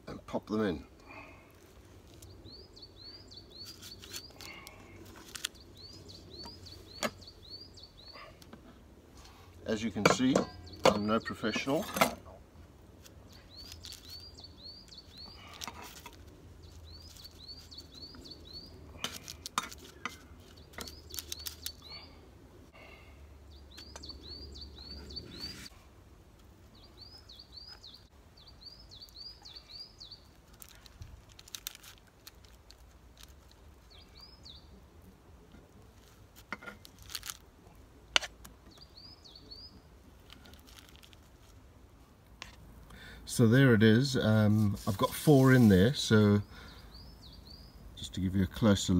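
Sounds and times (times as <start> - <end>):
songbird chirping: 0.1 - 48.9.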